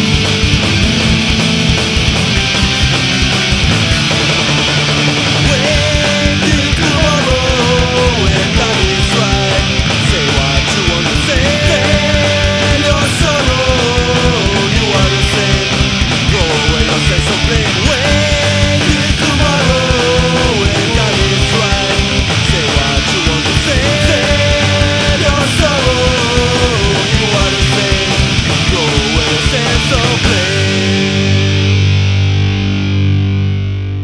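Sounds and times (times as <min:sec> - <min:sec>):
fast drum beat: 0:00.0 - 0:31.8
melodic lead guitar line: 0:00.0 - 0:34.0
punk rock band playing: 0:00.0 - 0:34.0.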